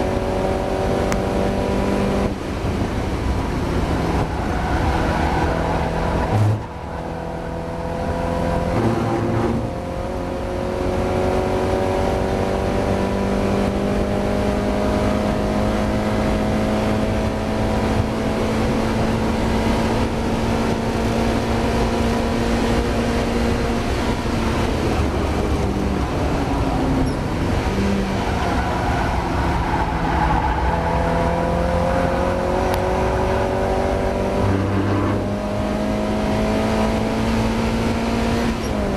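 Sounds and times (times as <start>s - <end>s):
car engine revving with misfire: 0.0s - 38.9s.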